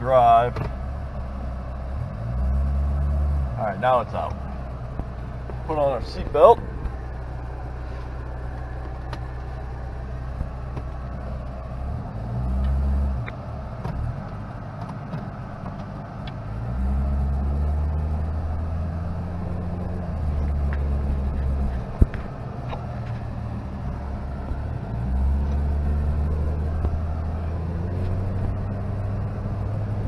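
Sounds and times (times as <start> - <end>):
car engine from inside cabin: 0.0 - 30.0.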